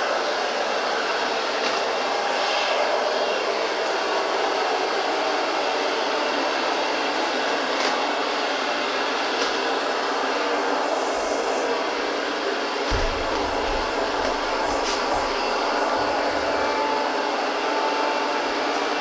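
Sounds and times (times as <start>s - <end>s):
robot vacuum cleaner running: 0.0s - 19.0s.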